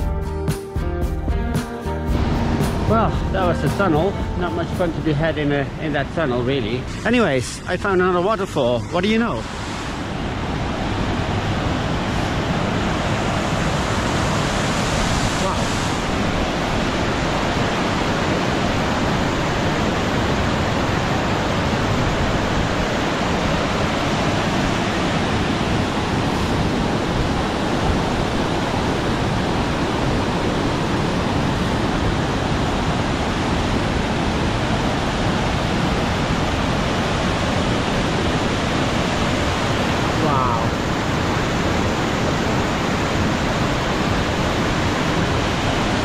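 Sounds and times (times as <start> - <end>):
waterfall rushing over boulders: 2.2 - 46.0.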